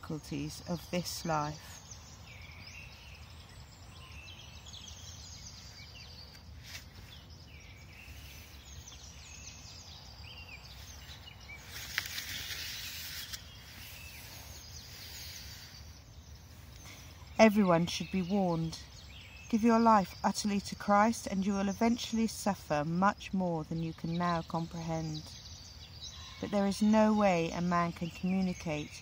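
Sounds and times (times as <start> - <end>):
rustle: 0.0 - 29.0
small birds chirping and singing: 0.0 - 29.0.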